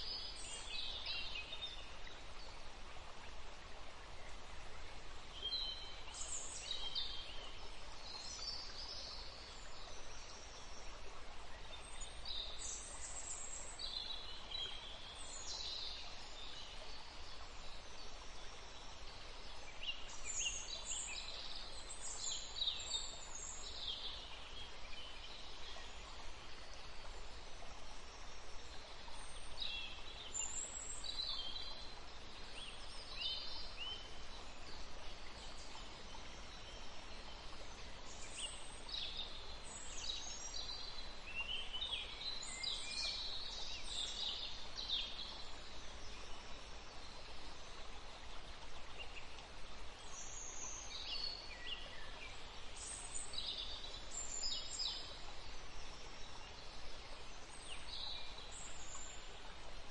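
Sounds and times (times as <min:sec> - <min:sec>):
small songbirds chirping: 0:00.0 - 0:59.9
steady background hiss: 0:00.0 - 0:59.9.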